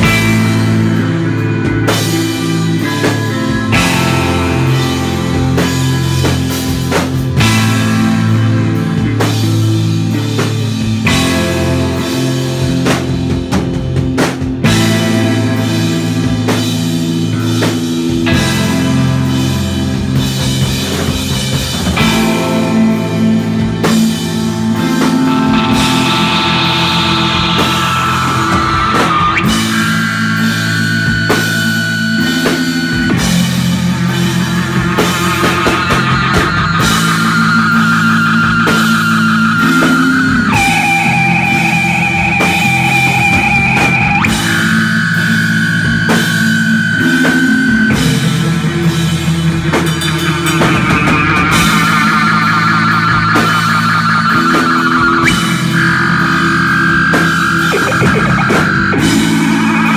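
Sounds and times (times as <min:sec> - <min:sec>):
lead guitar long high notes: 0:00.0 - 0:59.9
rock band playing: 0:00.0 - 0:59.9.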